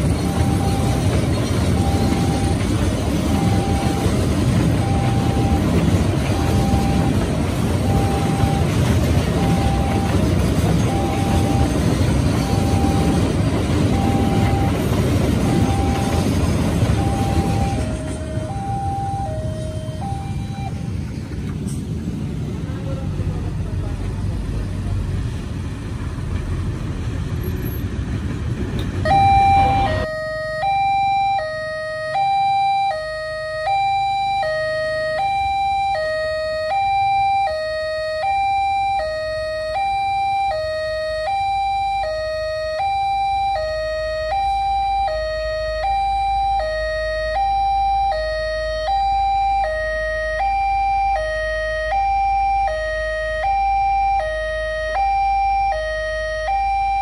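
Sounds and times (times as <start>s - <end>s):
two-tone warning alarm: 0.0s - 21.0s, 29.0s - 57.0s.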